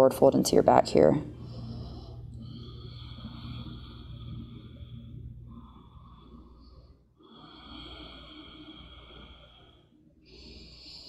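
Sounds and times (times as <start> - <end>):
person breathing slowly: 1.2 - 11.0.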